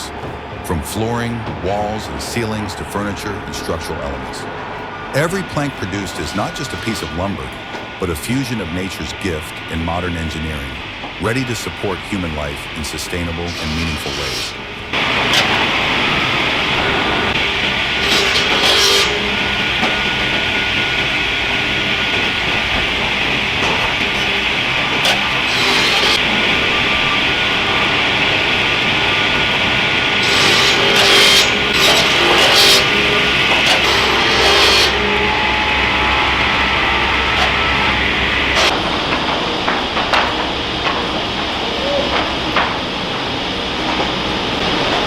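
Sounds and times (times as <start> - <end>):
sawmill saws cutting timber: 0.0 - 45.0.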